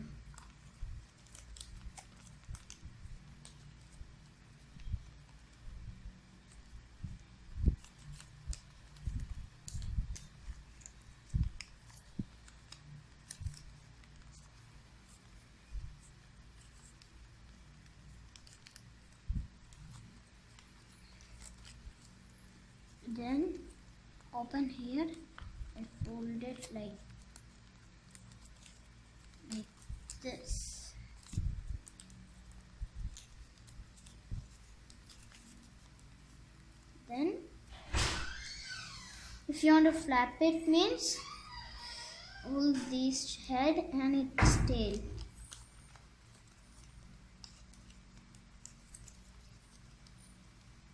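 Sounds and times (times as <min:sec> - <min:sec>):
paper crinkling and rustling: 0:00.0 - 0:50.9.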